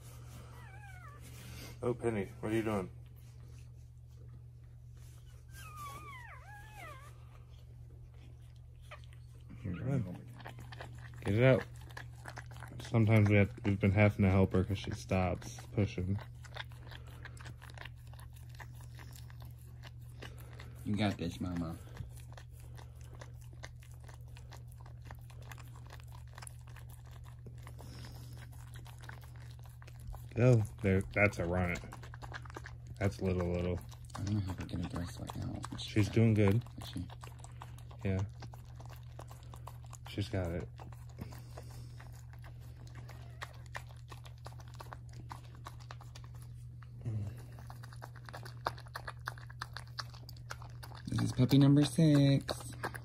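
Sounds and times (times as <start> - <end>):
dog licking wet clicks: 9.5 - 53.0.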